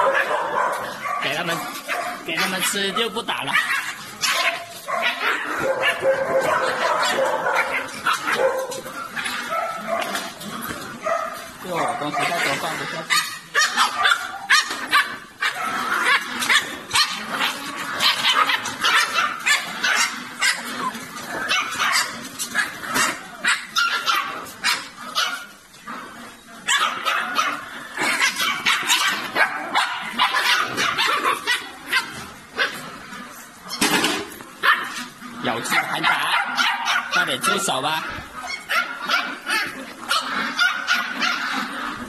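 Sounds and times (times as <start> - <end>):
puppies yipping and barking: 0.0 - 42.0.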